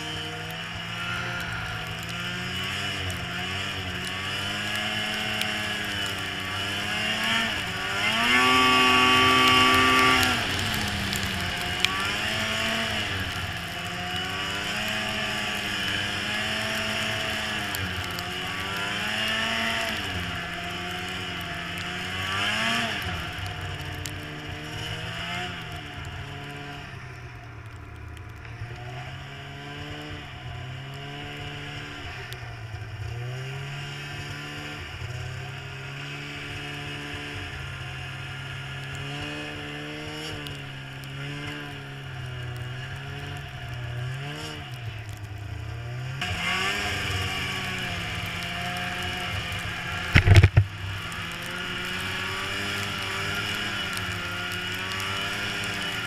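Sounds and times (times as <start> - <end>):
snowmobile engine: 0.0 - 56.0
steady rushing noise: 0.0 - 56.0.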